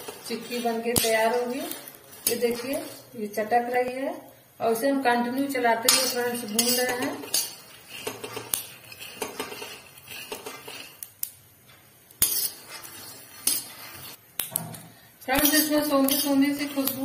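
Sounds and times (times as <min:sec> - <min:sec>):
metal spatula scraping a pan: 0:00.0 - 0:03.9, 0:05.3 - 0:11.1, 0:11.7 - 0:14.2, 0:15.3 - 0:17.0.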